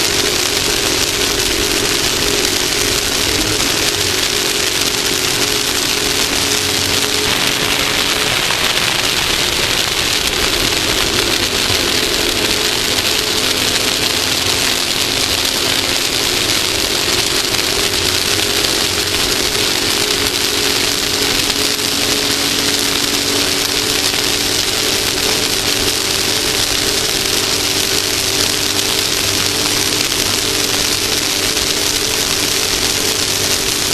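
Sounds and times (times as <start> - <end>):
race vehicle engine running: 0.0 - 33.9
wind and tyre hiss: 0.0 - 33.9.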